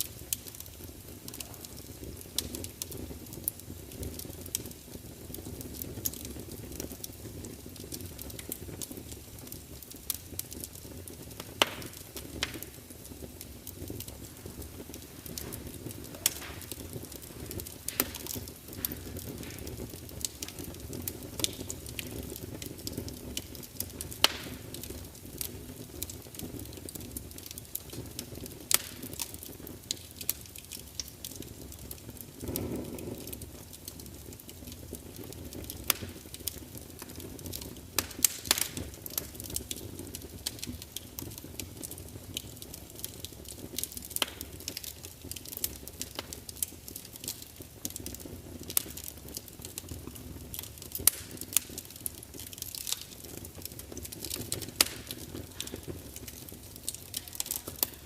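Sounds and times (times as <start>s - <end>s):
log fire crackling and popping: 0.0s - 58.0s.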